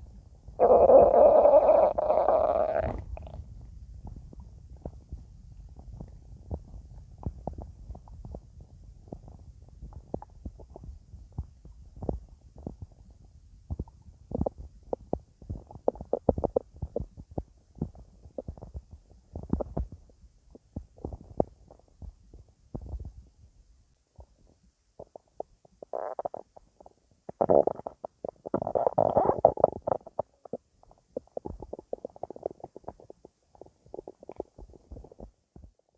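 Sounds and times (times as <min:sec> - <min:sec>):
stomach growling: 0:00.6 - 0:23.3, 0:24.2 - 0:35.9.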